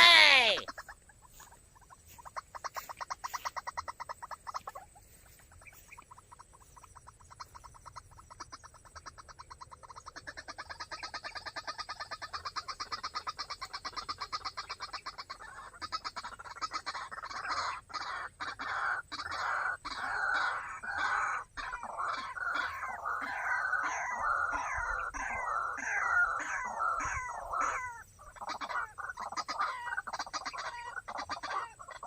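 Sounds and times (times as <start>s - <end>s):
waterhen calling: 0.0s - 32.0s.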